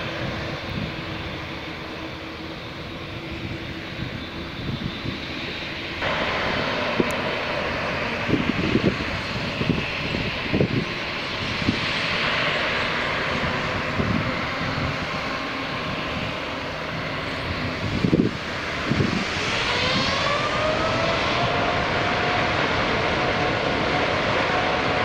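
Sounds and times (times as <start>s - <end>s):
airliner engines roaring: 0.0s - 25.0s
jet engine whine rising: 0.0s - 25.0s.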